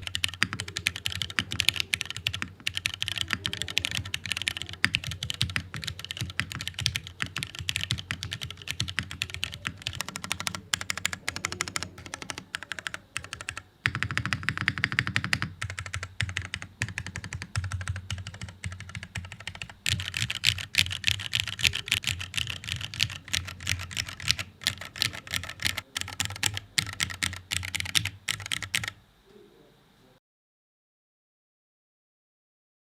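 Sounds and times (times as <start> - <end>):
mechanical keyboard typing: 0.0 - 29.0.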